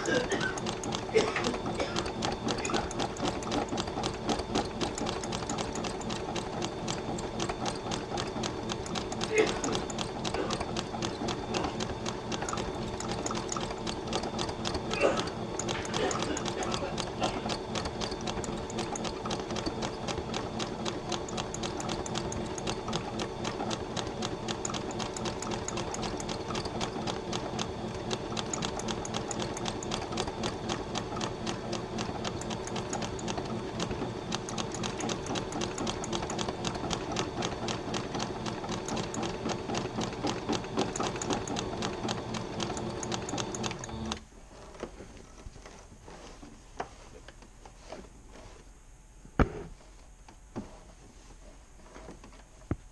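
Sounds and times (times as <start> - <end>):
sewing machine stitching: 0.0 - 46.4.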